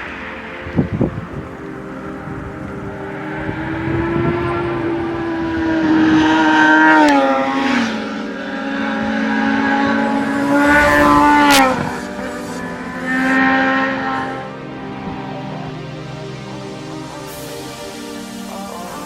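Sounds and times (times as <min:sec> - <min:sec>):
motorcycles passing at speed: 0:00.0 - 0:19.0.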